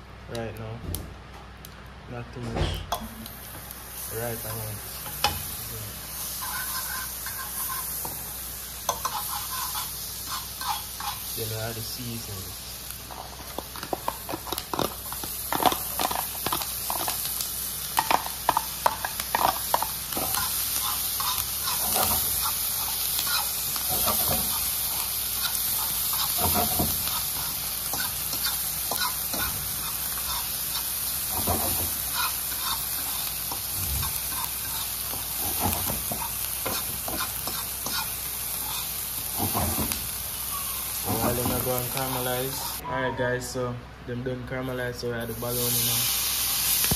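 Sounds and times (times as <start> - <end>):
vegetables sizzling in butter: 3.0 - 42.8, 45.2 - 46.9.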